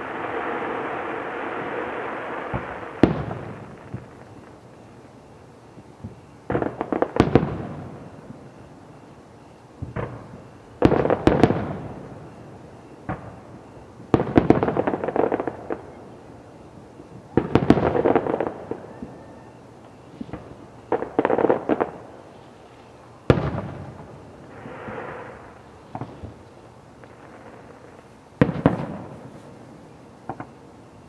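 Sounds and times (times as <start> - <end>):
firework crackling clusters: 0.0 - 31.0.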